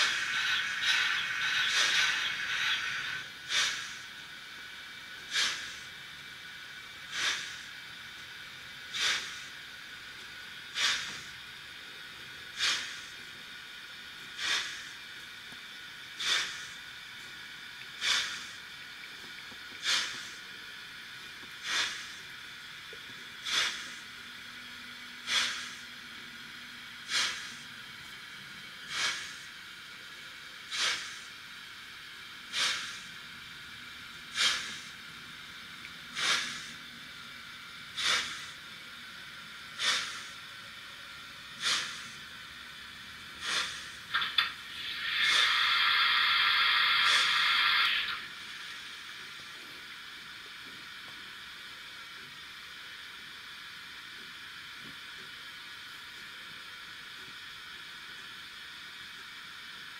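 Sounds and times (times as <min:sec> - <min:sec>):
steady hiss: 0:00.0 - 0:59.9
steam locomotive chuffs: 0:00.0 - 0:59.9.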